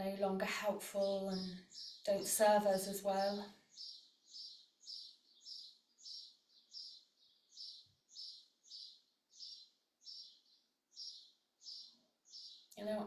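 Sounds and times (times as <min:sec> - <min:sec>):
small bird chirping: 0:01.0 - 0:13.0.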